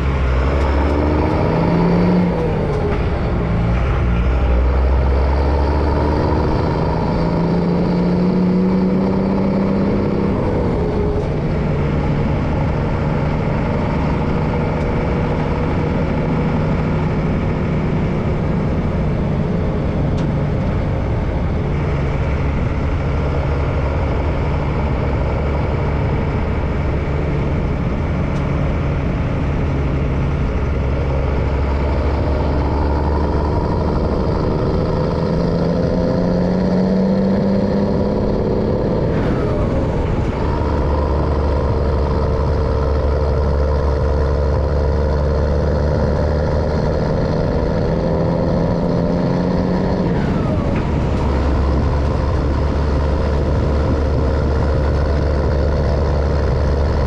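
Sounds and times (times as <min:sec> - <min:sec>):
truck diesel engine revving: 0:00.0 - 0:57.0.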